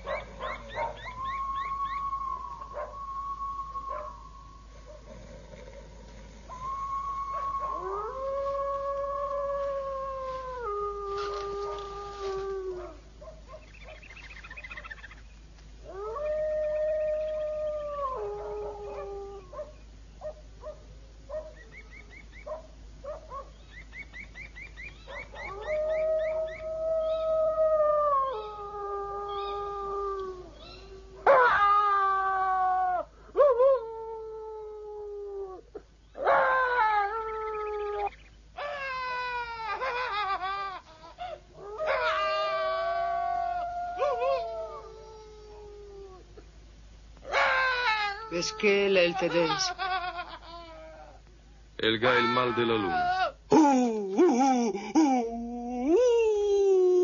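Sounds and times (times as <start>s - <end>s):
drawn-out howling: 0.0s - 53.5s.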